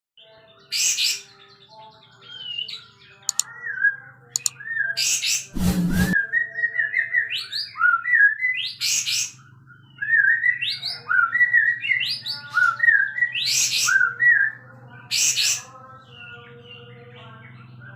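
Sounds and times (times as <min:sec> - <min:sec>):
songbird singing: 0:00.2 - 0:05.5, 0:06.1 - 0:17.9.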